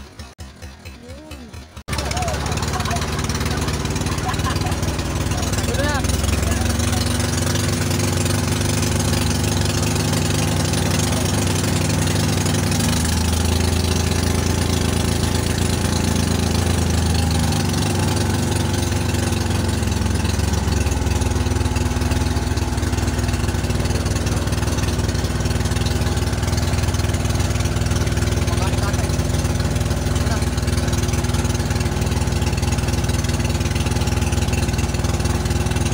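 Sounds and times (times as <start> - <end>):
boat engine running: 0.0 - 35.9.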